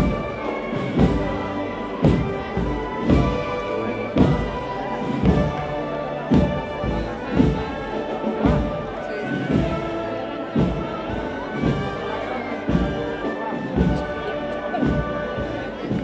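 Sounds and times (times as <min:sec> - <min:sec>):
band playing slow march: 0:00.0 - 0:16.0.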